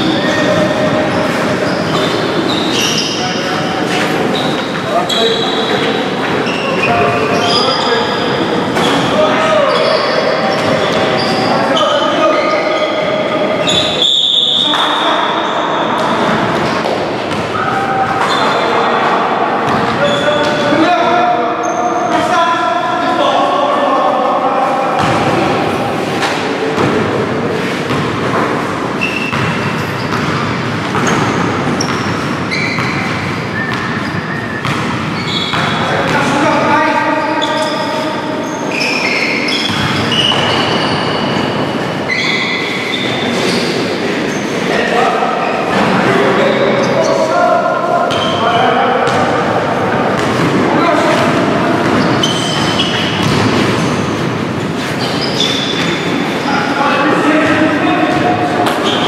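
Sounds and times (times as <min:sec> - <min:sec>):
echoing voices in a gym: 0:00.0 - 0:59.0.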